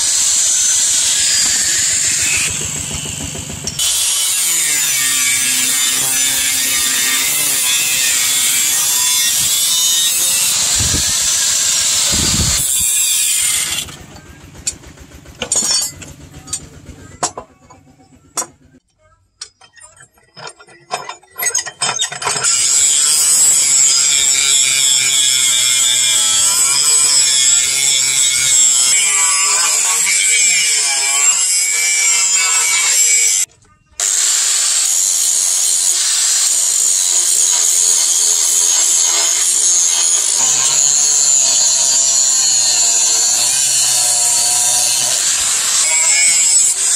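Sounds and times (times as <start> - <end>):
angle grinder cutting steel: 0.0 - 14.2, 20.6 - 46.9.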